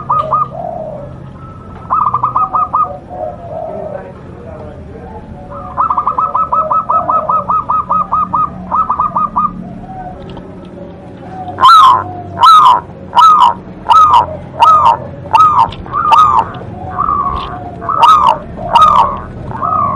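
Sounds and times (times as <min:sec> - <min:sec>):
dove cooing: 0:00.0 - 0:19.9.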